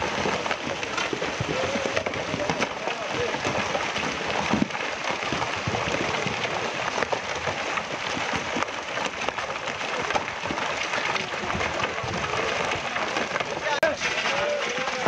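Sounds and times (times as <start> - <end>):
rock and debris tumbling: 0.0 - 15.0.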